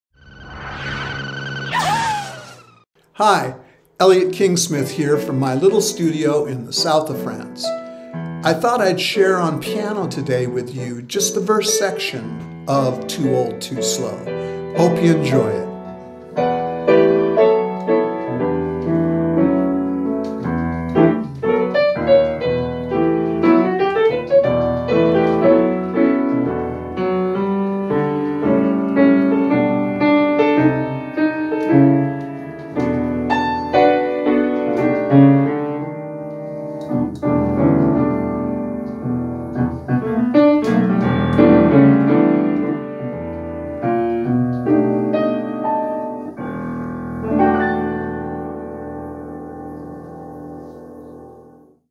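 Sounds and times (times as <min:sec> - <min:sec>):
upright piano chords: 0:00.5 - 0:51.9.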